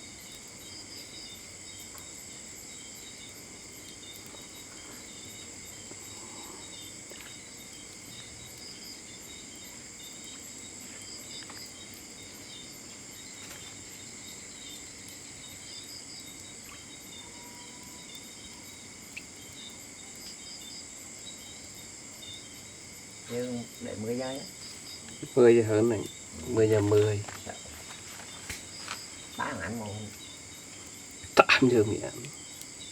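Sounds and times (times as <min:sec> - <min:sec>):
crickets chirping: 0:00.0 - 0:32.9.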